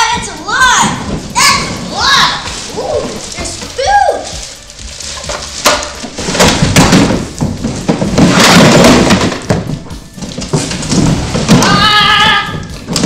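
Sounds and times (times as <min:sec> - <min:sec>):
plastic bag rustling: 0:01.0 - 0:11.8.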